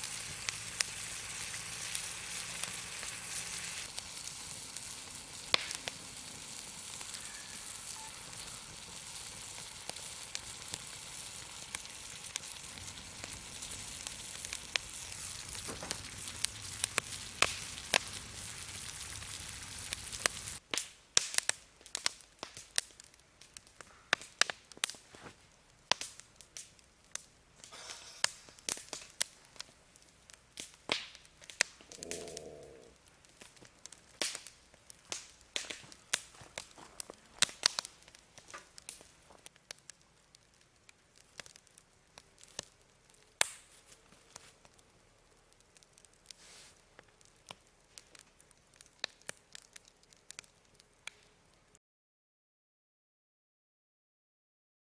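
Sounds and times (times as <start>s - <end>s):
steak sizzling: 0.0s - 20.6s, 24.2s - 51.4s
wood fire crackling: 0.0s - 51.8s.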